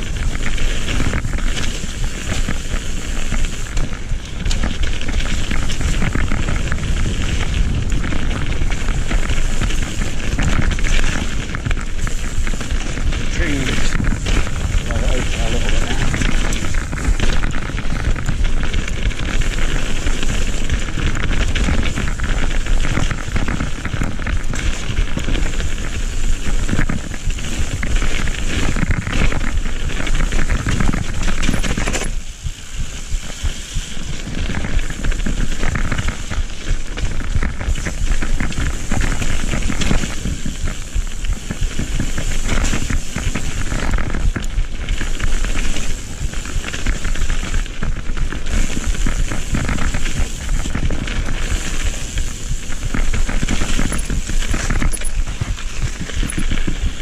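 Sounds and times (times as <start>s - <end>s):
bike clattering over gravel: 0.0s - 57.0s
wind on microphone: 0.0s - 57.0s.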